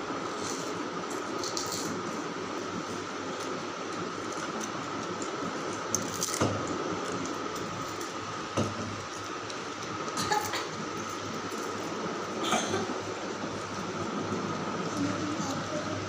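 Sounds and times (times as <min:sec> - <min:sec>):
mechanical room hum: 0:00.0 - 0:16.0.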